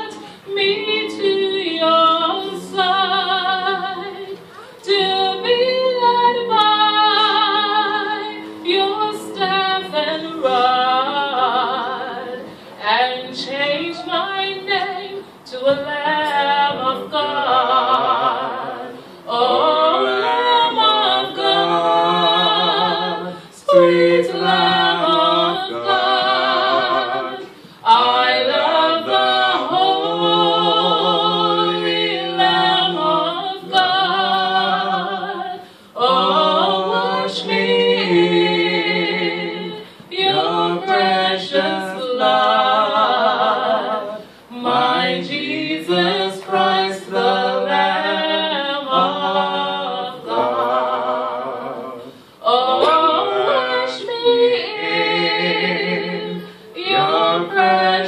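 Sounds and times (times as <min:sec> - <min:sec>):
woman singing with vibrato: 0:00.0 - 0:58.0.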